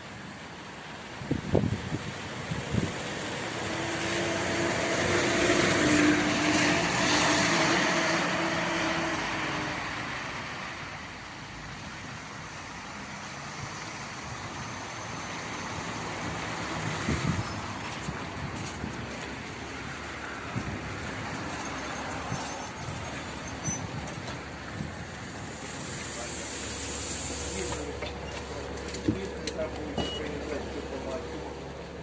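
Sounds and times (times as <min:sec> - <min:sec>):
cars passing on wet road: 0:00.0 - 0:32.0
city bus pulling in: 0:00.0 - 0:32.0.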